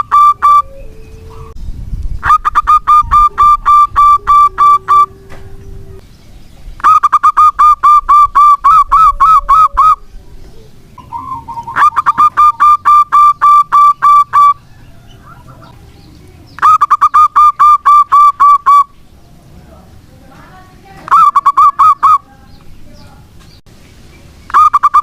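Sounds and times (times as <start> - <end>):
zebra dove calling: 0.0 - 1.6, 2.2 - 6.0, 6.8 - 19.0, 21.0 - 23.0, 24.5 - 25.0.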